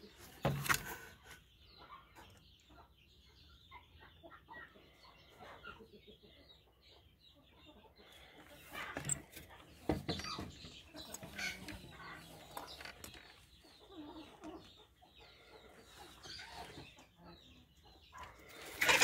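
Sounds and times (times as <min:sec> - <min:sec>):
chickens clucking softly: 0:00.0 - 0:19.0.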